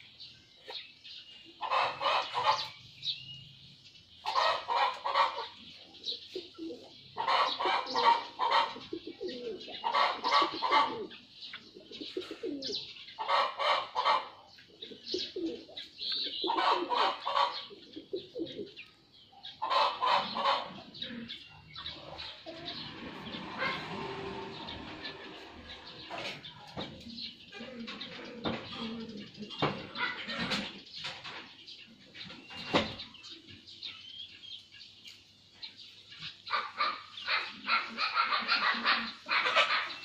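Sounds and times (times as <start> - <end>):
bird calling: 4.2 - 34.7, 35.6 - 40.0.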